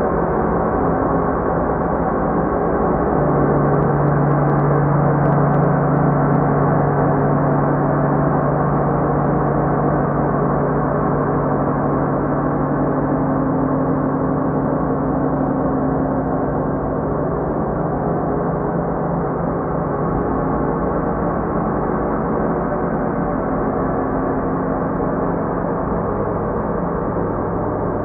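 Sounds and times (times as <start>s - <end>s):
ambient drone of ringing tones: 0.0s - 28.0s.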